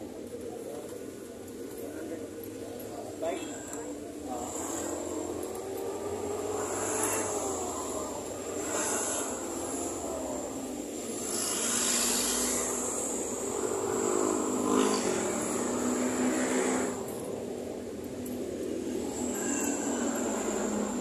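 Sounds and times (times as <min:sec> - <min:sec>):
engine hum: 0:00.0 - 0:21.0
vehicles passing: 0:00.0 - 0:21.0.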